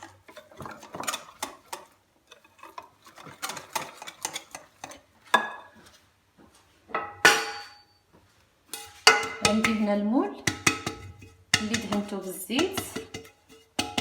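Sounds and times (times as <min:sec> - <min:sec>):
utensil stirring batter in bowl: 0:00.0 - 0:06.0, 0:08.7 - 0:14.0.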